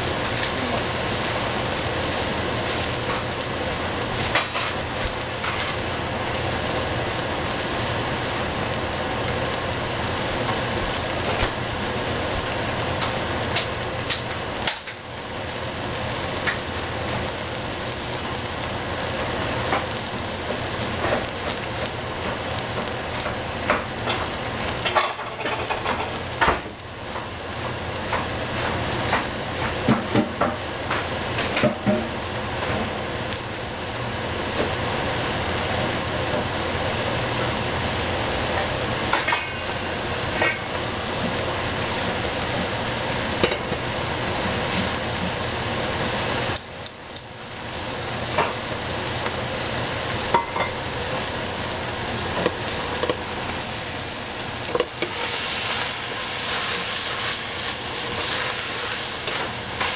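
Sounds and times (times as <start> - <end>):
vegetables sizzling in a pan: 0.0 - 59.9.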